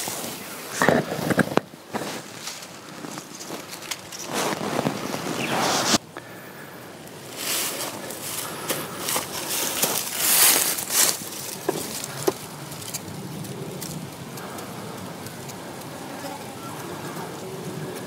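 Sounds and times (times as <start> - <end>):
dry leaves rustling and crackling: 0.0 - 18.0.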